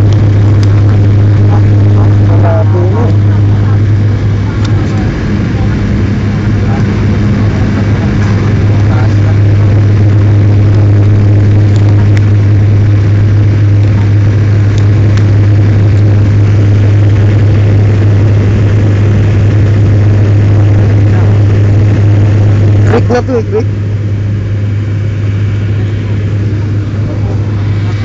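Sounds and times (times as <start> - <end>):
deep cabin hum: 0.0 - 28.0
engine and airflow rush: 0.0 - 28.0.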